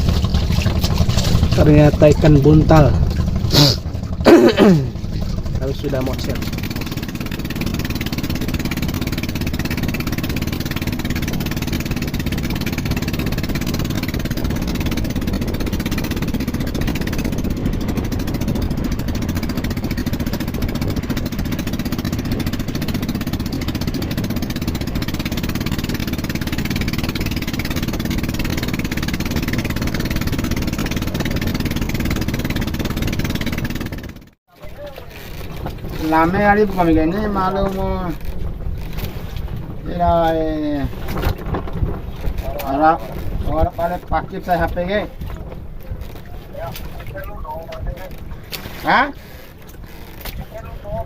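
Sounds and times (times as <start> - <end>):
engine running steadily: 0.0 - 51.0.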